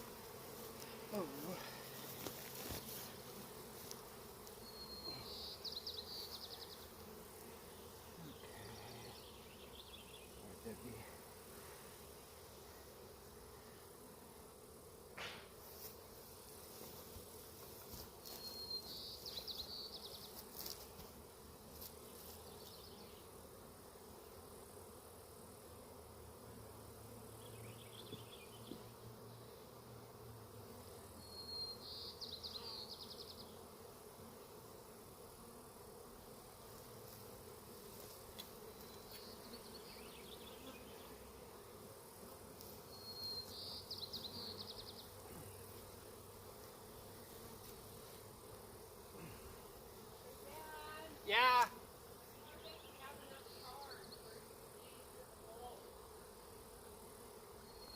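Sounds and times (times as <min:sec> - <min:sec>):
honeybees buzzing: 0:00.0 - 0:57.9.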